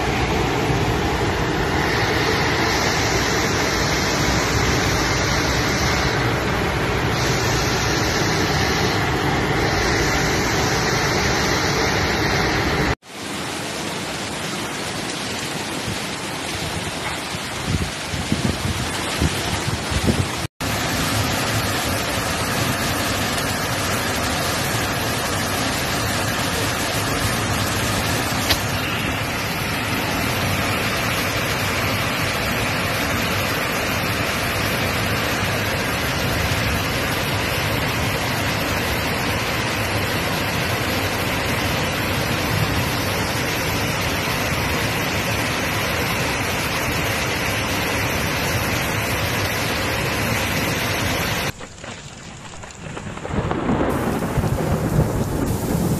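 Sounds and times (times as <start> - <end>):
heavy rain rushing: 0.0 - 55.9.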